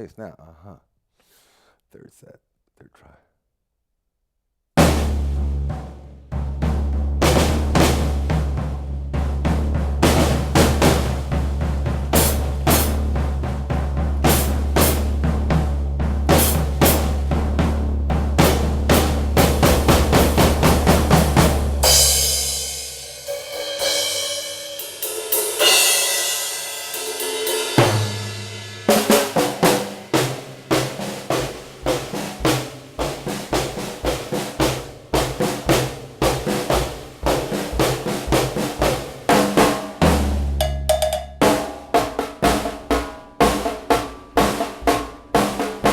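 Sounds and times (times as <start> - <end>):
snare and bass drum strokes: 4.8 - 45.9.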